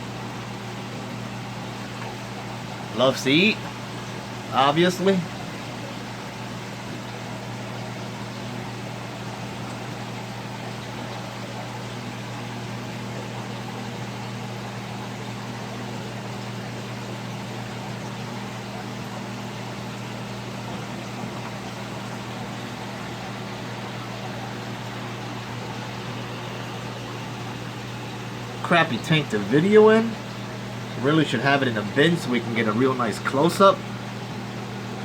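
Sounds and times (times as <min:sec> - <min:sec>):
aquarium pumps humming: 0:00.0 - 0:35.0.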